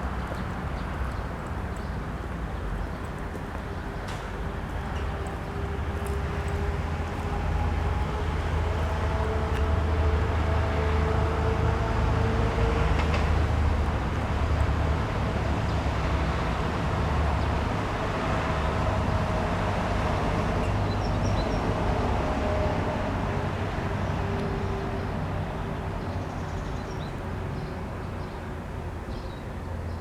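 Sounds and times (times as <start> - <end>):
low rumble of traffic: 0.0 - 30.0.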